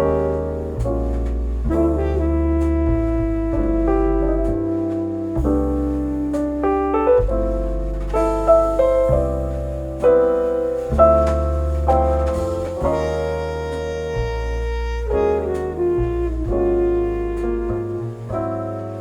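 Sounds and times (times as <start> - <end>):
jazz music with piano and bass: 0.0 - 19.0.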